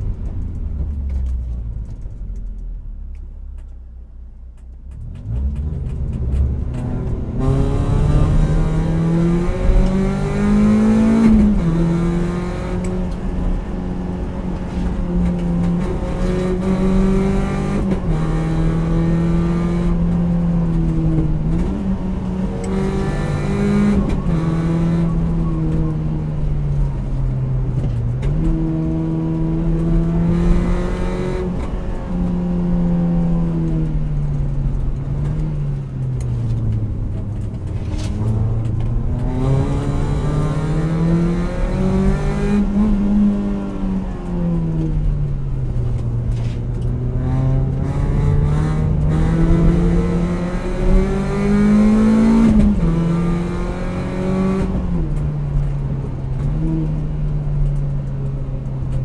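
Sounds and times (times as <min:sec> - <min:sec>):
car engine with gear changes: 0:00.0 - 0:59.0.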